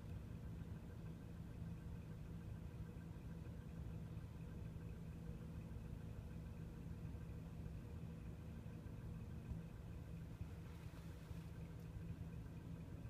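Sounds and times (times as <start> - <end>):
diesel truck engine humming: 0.0 - 13.0.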